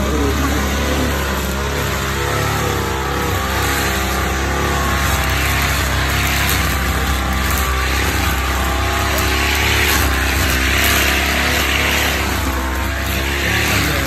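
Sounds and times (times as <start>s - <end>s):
brush cutter engine running: 0.0s - 14.0s
spinning head cutting grass: 0.0s - 14.0s.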